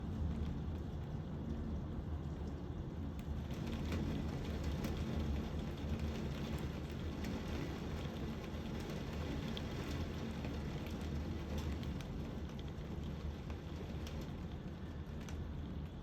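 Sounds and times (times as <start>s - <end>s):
heavy rain downpour: 0.0s - 16.0s.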